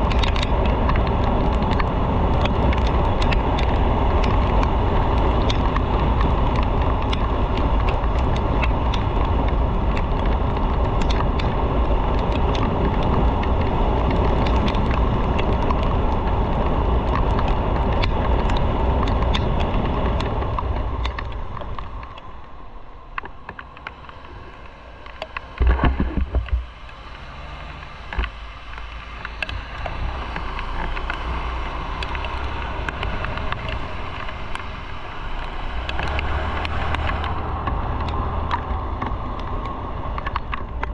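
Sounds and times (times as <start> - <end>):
motorcycle engine and road noise: 0.0 - 40.9.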